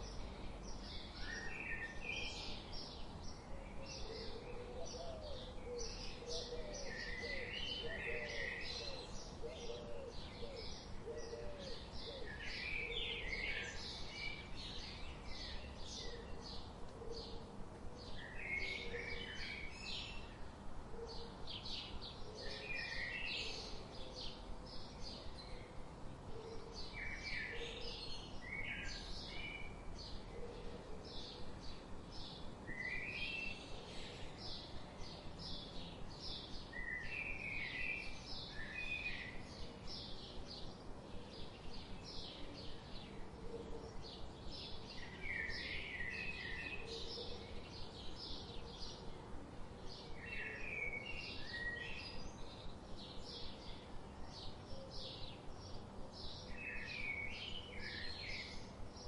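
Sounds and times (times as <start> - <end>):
low background hiss: 0.0 - 59.0
songbirds chirping: 0.0 - 59.0.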